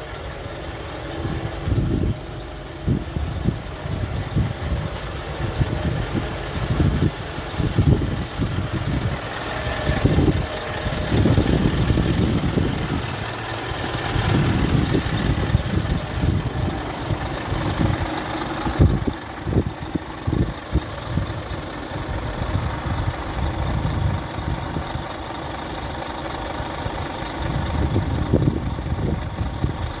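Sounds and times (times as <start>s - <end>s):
truck diesel engine idling: 0.0s - 30.0s
wind buffeting microphone: 1.1s - 26.0s, 26.6s - 30.0s.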